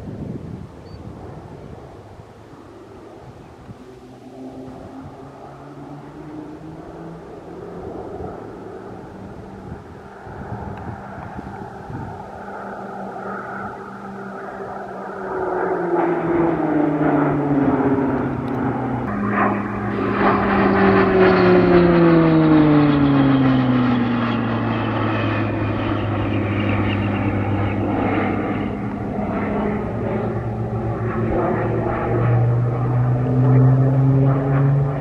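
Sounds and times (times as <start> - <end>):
propeller planes flying past: 0.0 - 35.0.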